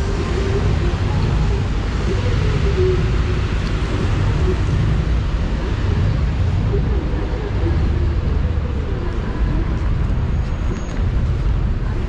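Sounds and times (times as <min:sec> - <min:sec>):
city street rumble: 0:00.0 - 0:12.0
heavy rain: 0:00.0 - 0:12.0
wind buffeting microphone: 0:00.0 - 0:12.0.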